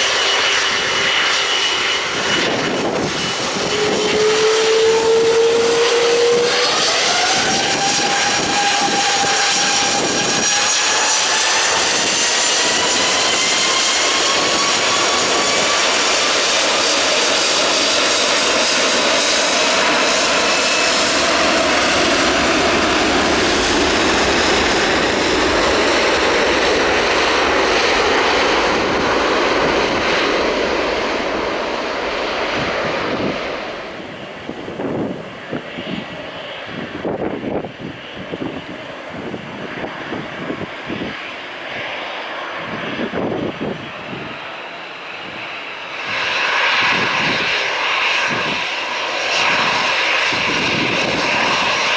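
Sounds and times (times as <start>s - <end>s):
jet engines roaring: 0.0s - 51.9s
wind gusts on microphone: 0.0s - 51.9s.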